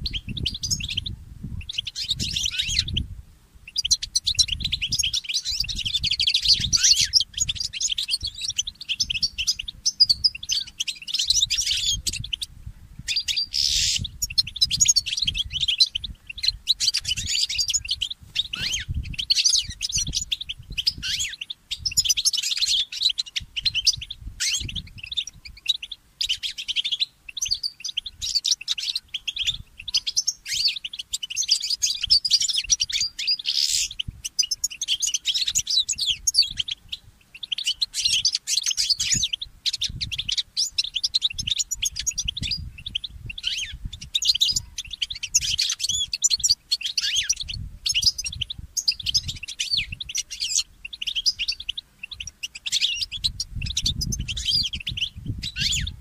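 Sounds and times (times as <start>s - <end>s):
bird twittering and trilling: 0.0s - 56.0s.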